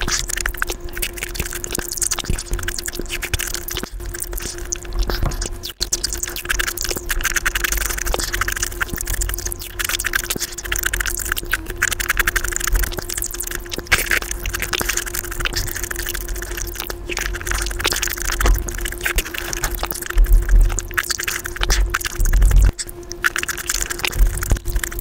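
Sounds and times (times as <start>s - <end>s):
wet fast chewing: 0.0s - 25.0s.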